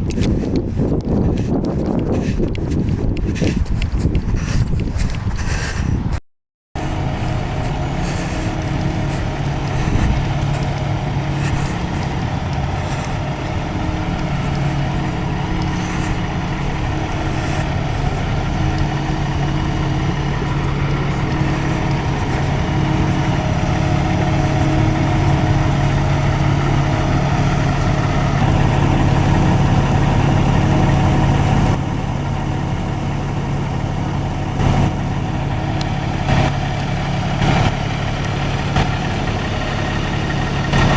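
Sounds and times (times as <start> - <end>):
vehicle engine idling: 6.8 - 40.9.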